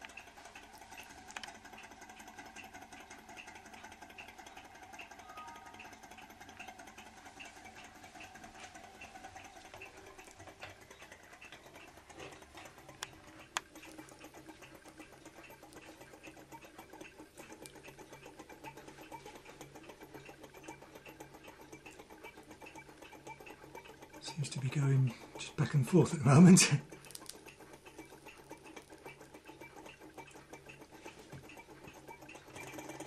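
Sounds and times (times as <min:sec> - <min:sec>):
small engine ticking: 0:00.0 - 0:33.0.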